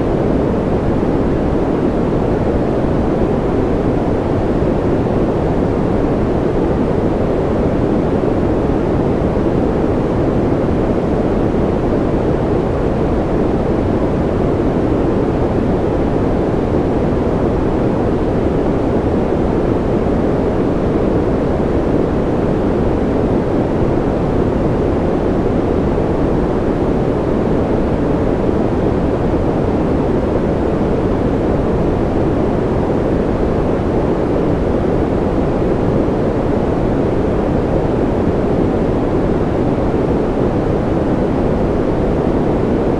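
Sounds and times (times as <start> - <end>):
white noise rushing hiss: 0.0 - 42.9.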